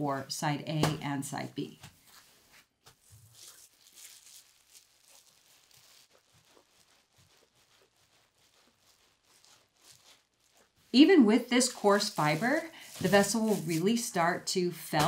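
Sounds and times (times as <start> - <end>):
plastic and bubble wrap crinkling: 1.8 - 15.0.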